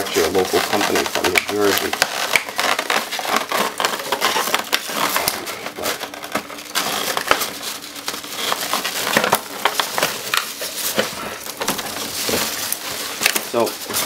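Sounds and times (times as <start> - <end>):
foam packing peanuts rustling: 0.0 - 14.0
plastic package crackling: 0.0 - 14.0.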